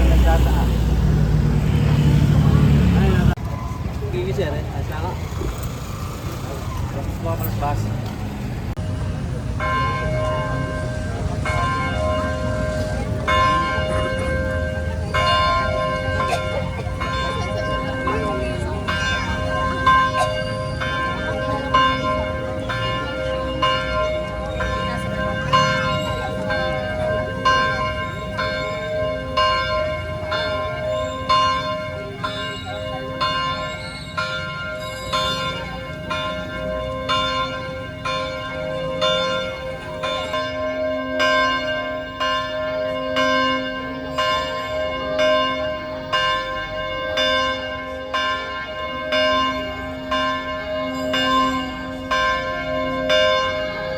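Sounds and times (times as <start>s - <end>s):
church bell ringing: 8.7s - 53.9s.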